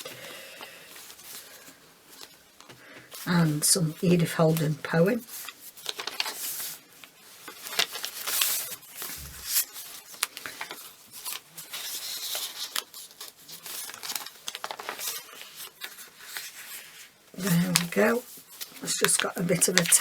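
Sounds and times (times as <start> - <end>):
paper pages rustling: 0.0 - 20.0.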